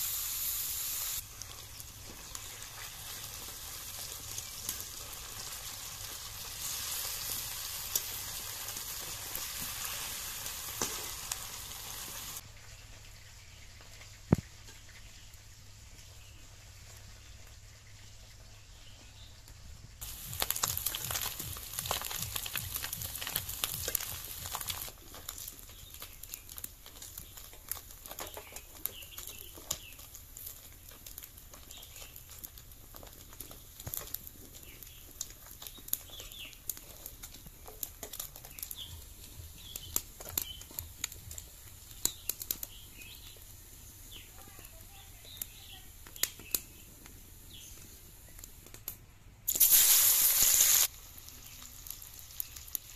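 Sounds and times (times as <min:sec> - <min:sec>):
fish sizzling in hot oil: 0:00.0 - 0:19.3, 0:20.0 - 0:48.6, 0:49.5 - 0:52.9.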